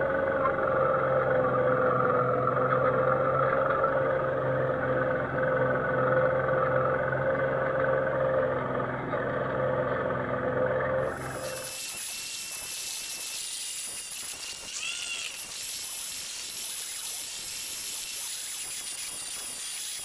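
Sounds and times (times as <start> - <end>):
electric tractor motor whining: 0.0 - 20.0.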